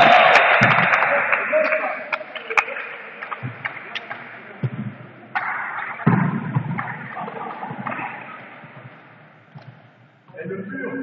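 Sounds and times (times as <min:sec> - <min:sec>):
indistinct voices in a hall: 0:00.0 - 0:11.0.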